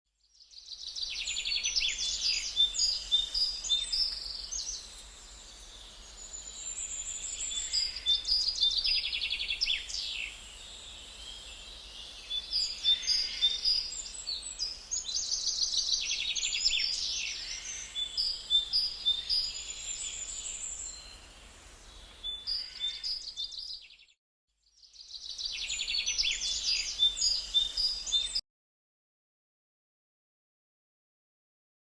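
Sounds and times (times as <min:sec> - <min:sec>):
small birds chirping: 0:00.4 - 0:24.1, 0:24.7 - 0:28.4.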